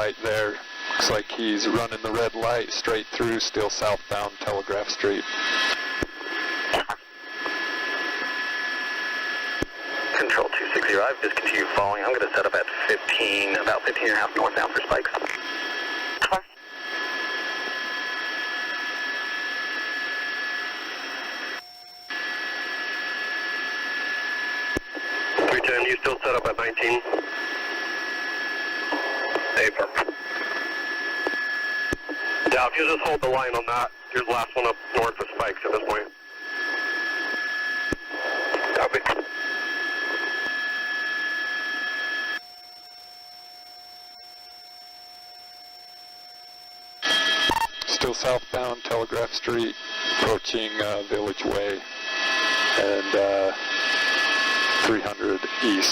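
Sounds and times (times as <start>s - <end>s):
radio channel hissing: 0.0s - 42.4s, 47.0s - 55.9s
faint steady hum: 0.0s - 55.9s
faint steady tones: 0.0s - 55.9s.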